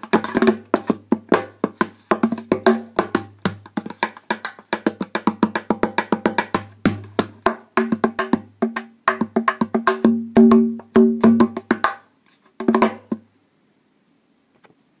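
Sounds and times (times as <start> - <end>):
cajon slaps: 0.0 - 12.0, 12.6 - 13.2
cajon bass strokes: 0.0 - 13.2.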